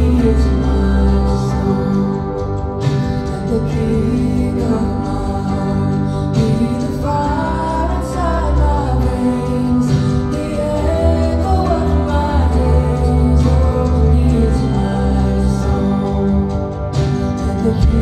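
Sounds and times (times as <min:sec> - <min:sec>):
live worship band playing: 0:00.0 - 0:18.0.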